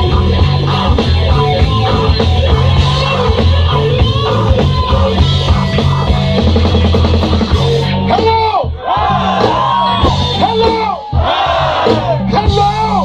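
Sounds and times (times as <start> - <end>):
bass line: 0.0 - 13.0
guitar: 0.0 - 13.0
steady drums: 0.0 - 13.0.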